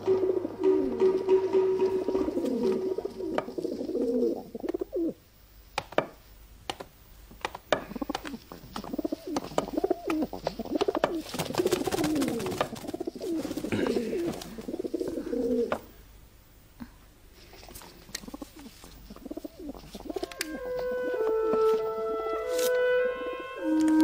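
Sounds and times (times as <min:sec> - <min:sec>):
pigeons cooing: 0:00.0 - 0:05.2, 0:07.7 - 0:16.0, 0:17.4 - 0:24.0.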